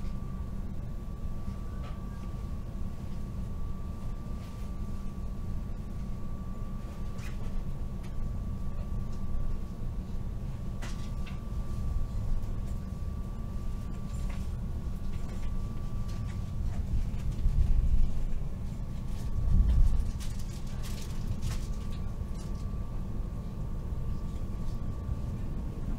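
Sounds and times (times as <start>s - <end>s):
train interior rumble: 0.0s - 25.9s.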